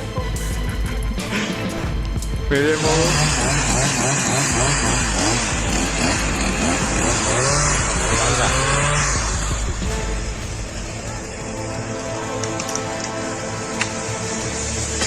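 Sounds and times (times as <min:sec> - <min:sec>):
petrol engine revving: 0:00.0 - 0:15.0.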